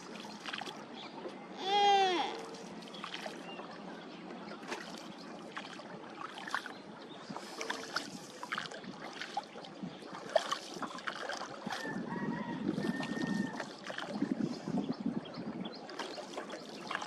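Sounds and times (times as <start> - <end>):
water splashing: 0.0 - 14.5, 15.8 - 17.0
water lapping against boat: 0.0 - 17.0.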